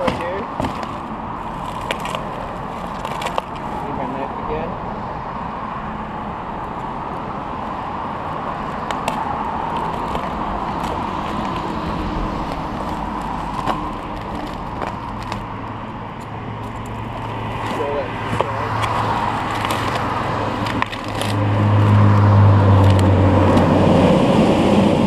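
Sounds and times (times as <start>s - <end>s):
passing cars traffic noise: 0.0s - 25.0s.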